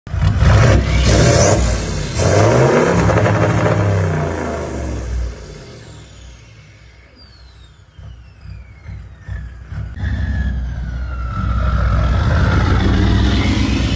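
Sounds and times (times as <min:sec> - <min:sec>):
engine revving: 0:00.1 - 0:13.9
high whistling tones sliding down: 0:01.0 - 0:13.9.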